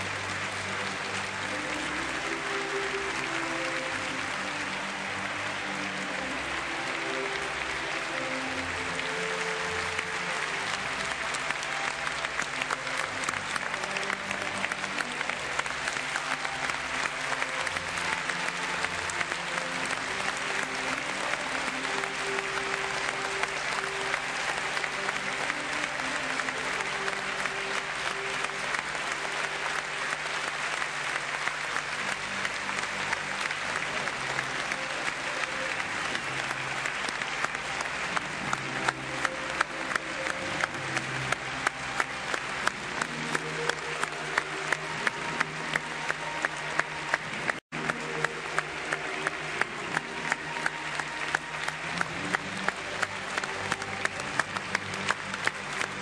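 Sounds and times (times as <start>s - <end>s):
audience applauding: 0.0s - 56.0s
music playing: 0.0s - 56.0s.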